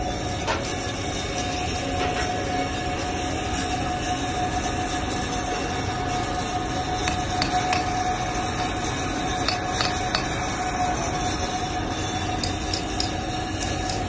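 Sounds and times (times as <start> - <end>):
machinery with high whine: 0.0 - 14.0.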